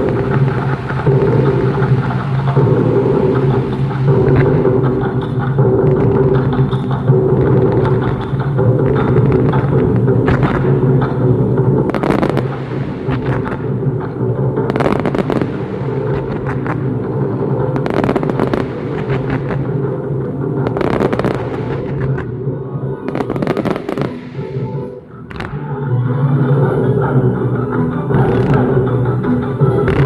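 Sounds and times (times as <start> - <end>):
fireworks bursting and crackling: 0.0 - 25.7
music: 0.0 - 30.0.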